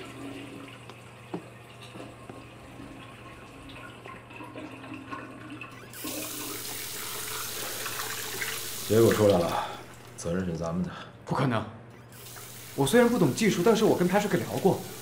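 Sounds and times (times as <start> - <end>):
tap water running into sink: 0.0 - 10.5, 12.1 - 15.0
faint room hum: 0.0 - 15.0.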